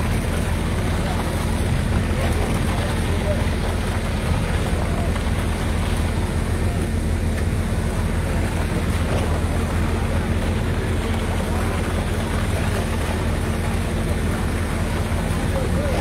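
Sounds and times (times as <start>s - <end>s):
construction machinery engine humming: 0.0s - 16.0s.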